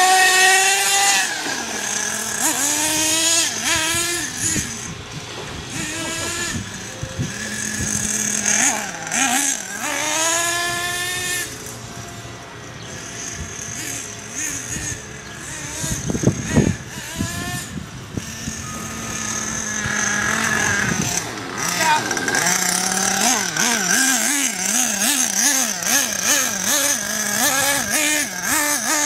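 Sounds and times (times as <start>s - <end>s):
toy car motor whining: 0.0s - 29.0s.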